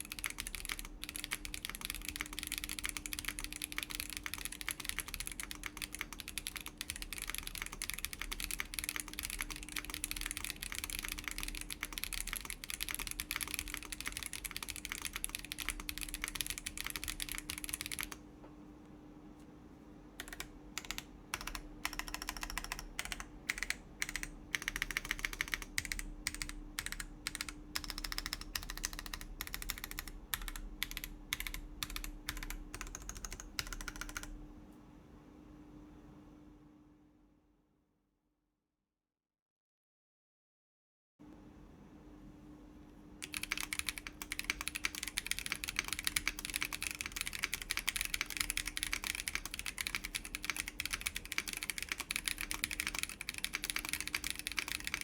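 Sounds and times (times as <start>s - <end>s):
mechanical keyboard typing: 0.0s - 18.2s, 20.2s - 34.4s, 43.2s - 55.0s.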